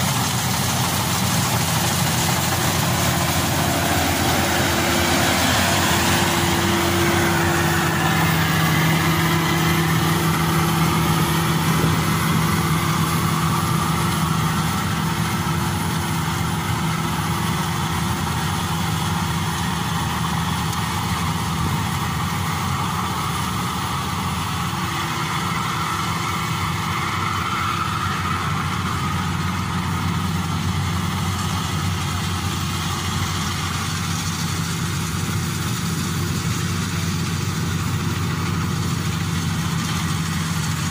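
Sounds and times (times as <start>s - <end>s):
combine harvester engine humming: 0.0s - 40.9s
rushing machinery noise: 0.0s - 40.9s.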